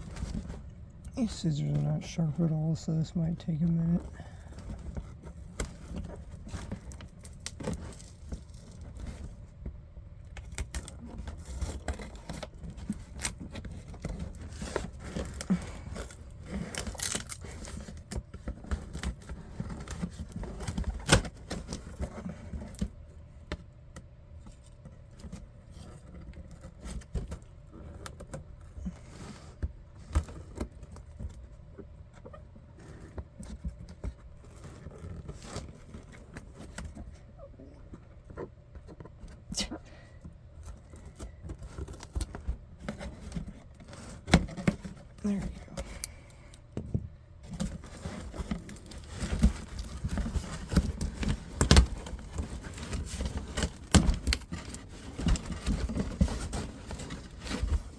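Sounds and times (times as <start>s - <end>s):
rustling and handling noise: 0.0s - 57.9s.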